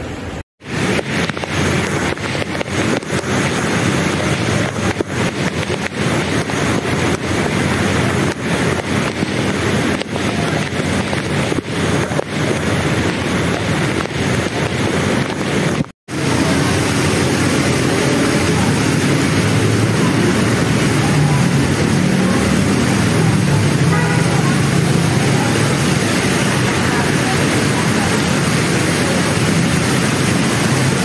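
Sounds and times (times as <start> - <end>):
fast-flowing river: 0.0 - 31.0
heavy rain: 0.0 - 31.0.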